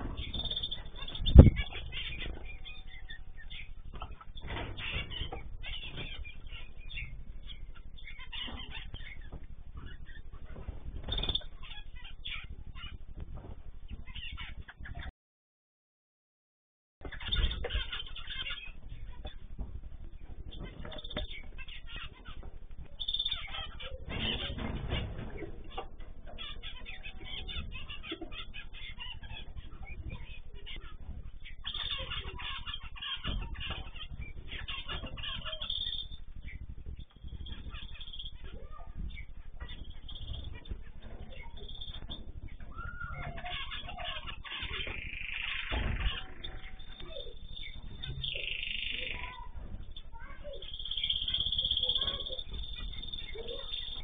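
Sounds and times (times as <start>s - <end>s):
small birds chirping: 0.0s - 15.1s, 17.0s - 54.0s.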